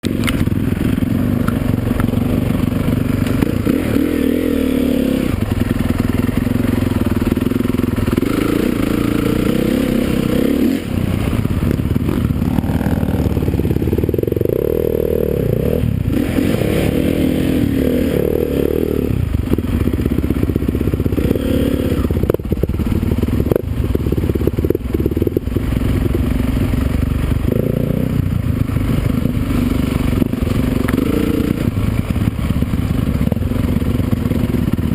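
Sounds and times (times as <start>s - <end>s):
motorcycle engines revving: 0.0s - 34.9s.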